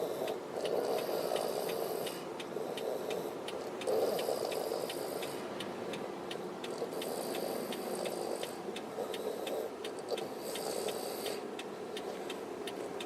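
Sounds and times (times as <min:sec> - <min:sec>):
toddler snoring: 0:00.0 - 0:06.0, 0:06.6 - 0:12.3
steady ticking: 0:00.0 - 0:13.0.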